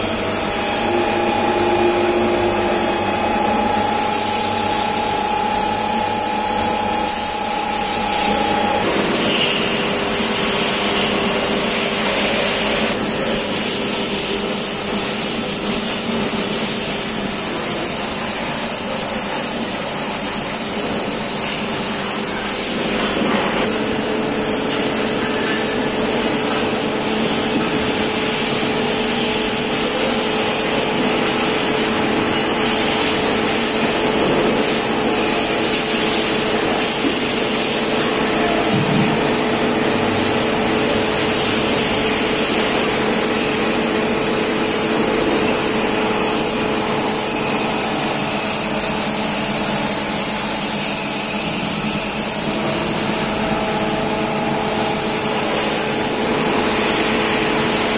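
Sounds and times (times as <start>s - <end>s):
industrial machinery running: 0.0s - 57.9s
machine hums: 0.0s - 57.9s.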